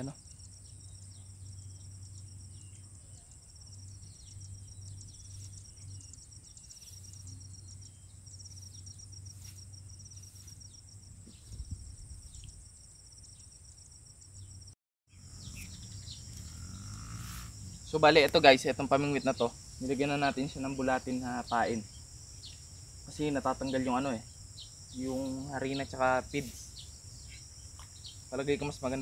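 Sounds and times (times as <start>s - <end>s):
insects trilling in chorus: 0.0s - 29.0s.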